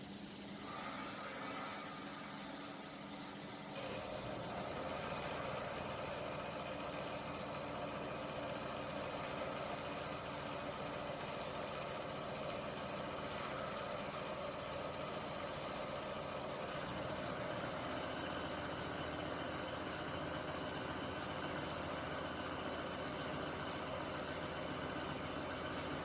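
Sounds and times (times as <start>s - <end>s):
industrial machine humming: 0.7s - 26.0s.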